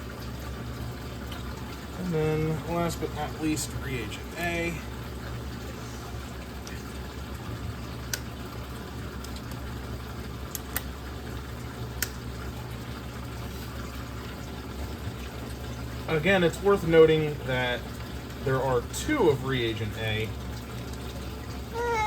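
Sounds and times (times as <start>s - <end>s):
aquarium equipment hum and water: 0.0s - 22.0s.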